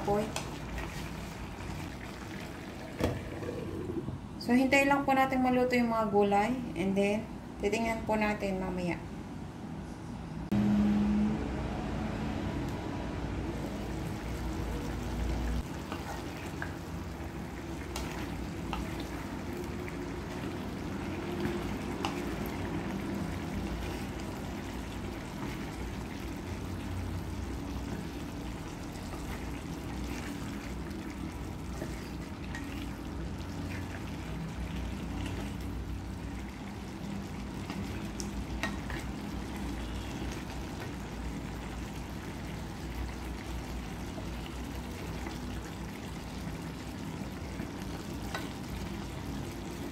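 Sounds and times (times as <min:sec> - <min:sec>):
food sizzling in a pan: 0:00.0 - 0:03.9, 0:13.6 - 0:49.9.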